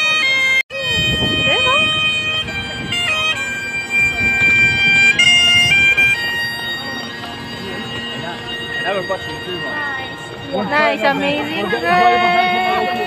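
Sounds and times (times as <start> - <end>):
bagpipe chanter melody: 0.0 - 13.0
bagpipe drone: 0.0 - 13.0.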